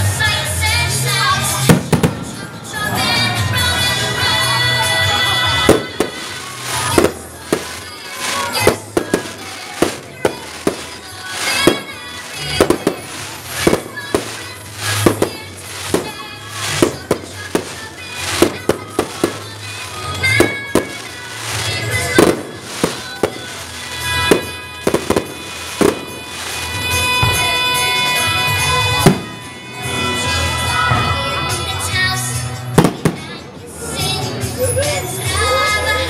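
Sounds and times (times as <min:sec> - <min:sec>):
music playing: 0:00.0 - 0:36.0
fireworks bursting: 0:01.0 - 0:30.8, 0:32.8 - 0:33.7.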